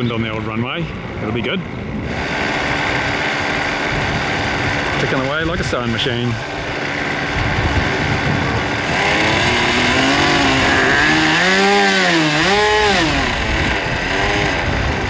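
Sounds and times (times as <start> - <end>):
model airplane engine at high revs: 1.4 - 15.0.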